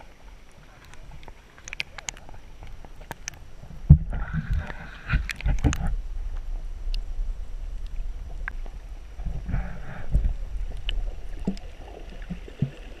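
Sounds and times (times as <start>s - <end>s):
underwater water rumble: 0.0s - 13.0s.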